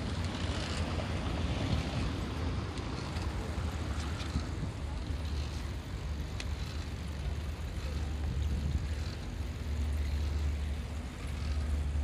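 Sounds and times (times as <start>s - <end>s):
tyres rolling over paving: 0.0s - 12.0s
wind buffeting microphone: 0.0s - 12.0s.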